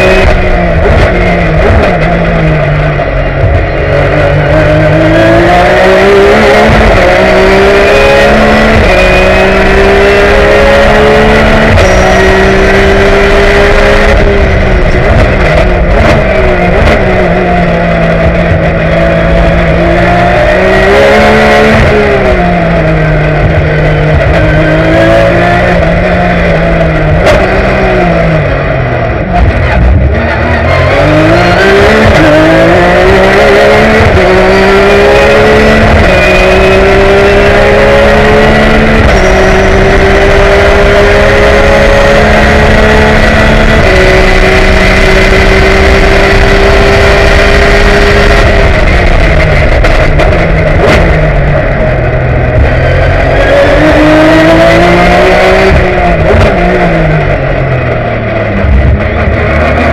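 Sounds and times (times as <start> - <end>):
race car engine at full load: 0.0 - 59.9.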